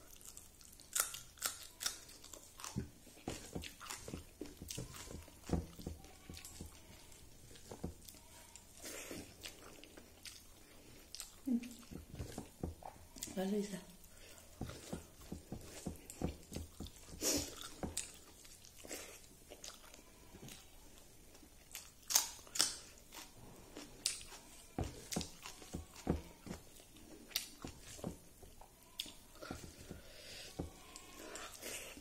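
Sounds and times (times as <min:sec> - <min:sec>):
person chewing and biting food: 0:00.0 - 0:13.3, 0:14.1 - 0:32.0.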